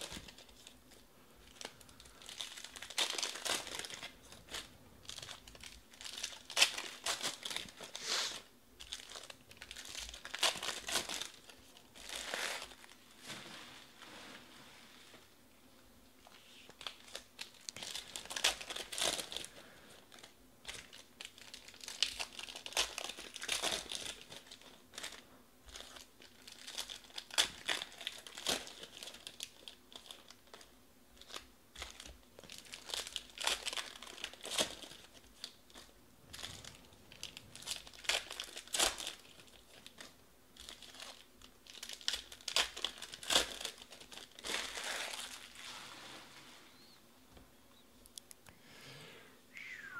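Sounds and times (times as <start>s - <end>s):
foil wrappers tearing and crinkling: 0.0s - 13.0s, 16.8s - 45.7s.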